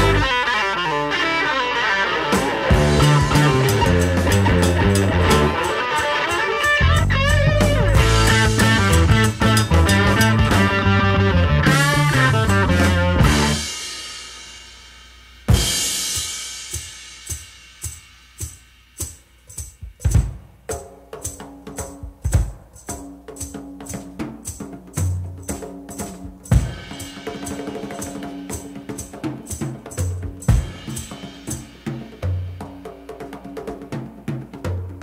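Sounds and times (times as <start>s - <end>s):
drum kit solo: 0.0s - 35.0s.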